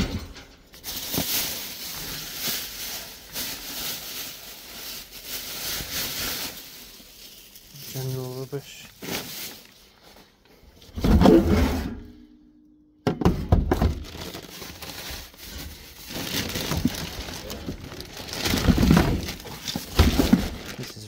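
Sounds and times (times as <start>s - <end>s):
rubbish rummaged in a metal bin: 0.0s - 12.4s, 13.1s - 21.0s.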